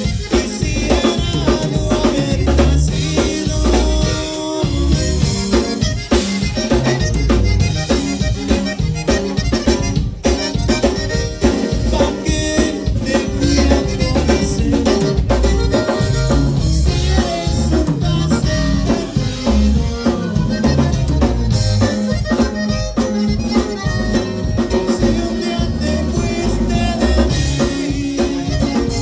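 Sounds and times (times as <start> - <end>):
accordion melody: 0.0 - 29.0
drum kit: 0.0 - 29.0.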